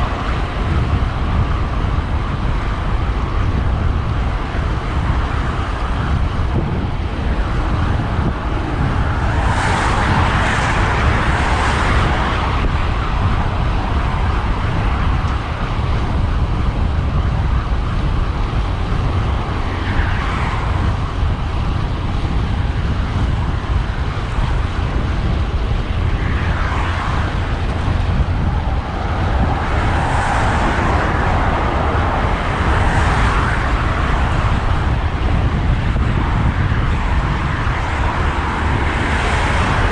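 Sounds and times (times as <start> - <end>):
cars passing by: 0.0 - 39.9
wind rushing over microphone: 0.0 - 39.9.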